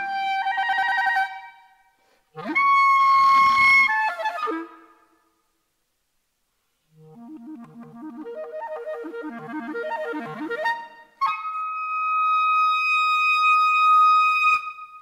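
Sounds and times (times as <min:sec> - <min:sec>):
solo clarinet: 0:00.0 - 0:01.6, 0:02.3 - 0:05.2, 0:06.9 - 0:15.0.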